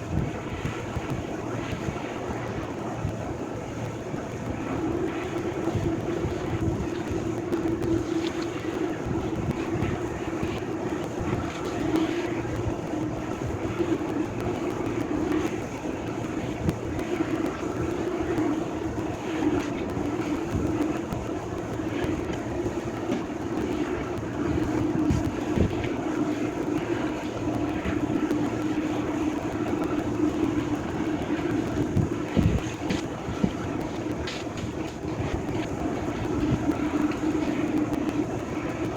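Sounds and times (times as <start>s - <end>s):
heavy machinery engine hum: 0.0s - 38.9s.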